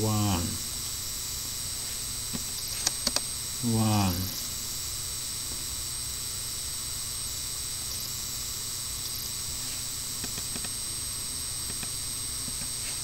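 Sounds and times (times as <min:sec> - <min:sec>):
low hum: 0:00.0 - 0:13.0
microphone hiss: 0:00.0 - 0:13.0
thin high whine: 0:00.0 - 0:13.0.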